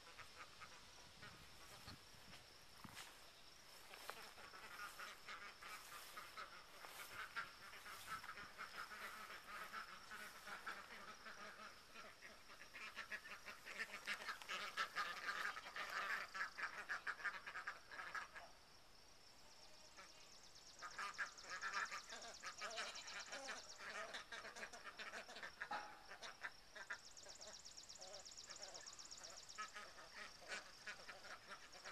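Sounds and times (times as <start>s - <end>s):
ducks quacking: 0.0s - 18.6s, 20.8s - 31.9s.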